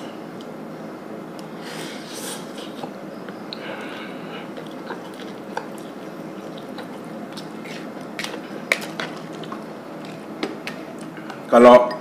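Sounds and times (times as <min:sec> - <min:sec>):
steady background noise: 0:00.0 - 0:12.0
person chewing noodles: 0:01.7 - 0:11.4.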